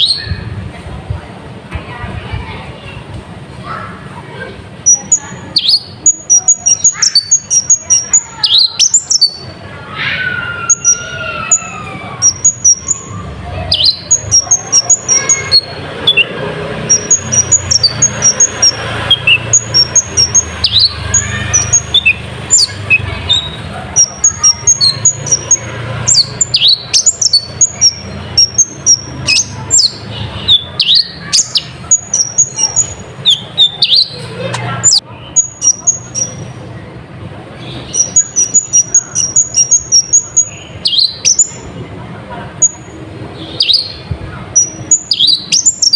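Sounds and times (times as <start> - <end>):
high thin bird chirps: 4.9 - 36.6, 37.8 - 41.6, 42.6 - 45.9.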